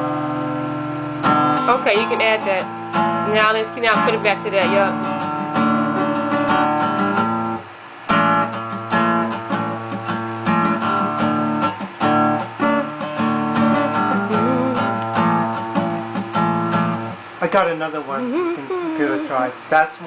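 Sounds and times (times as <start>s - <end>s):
acoustic guitar strumming chords: 0.0s - 17.4s, 18.0s - 19.7s.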